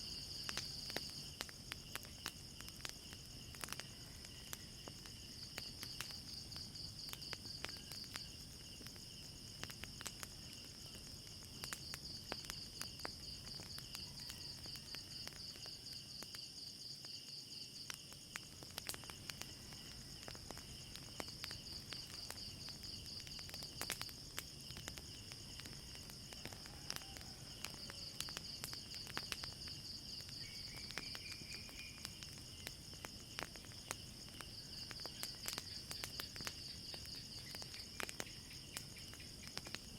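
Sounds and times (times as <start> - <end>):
crickets trilling: 0.0 - 39.9
wood fire crackling: 0.0 - 39.9.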